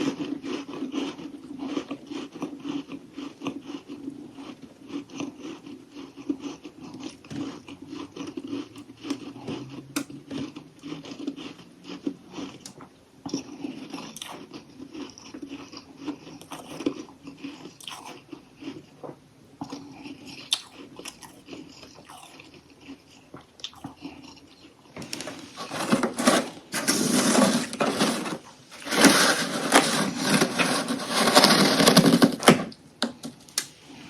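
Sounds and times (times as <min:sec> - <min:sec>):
chewing crunchy frost: 0:00.0 - 0:32.5.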